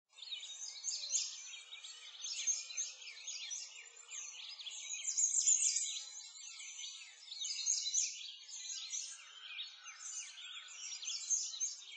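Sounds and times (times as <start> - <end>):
songbirds chirping and trilling: 0.1 - 11.9.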